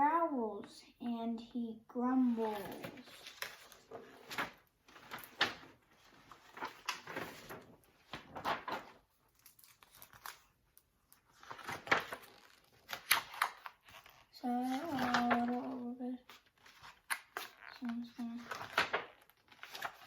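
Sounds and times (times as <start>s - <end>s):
paper rustling and crinkling: 2.2s - 20.0s.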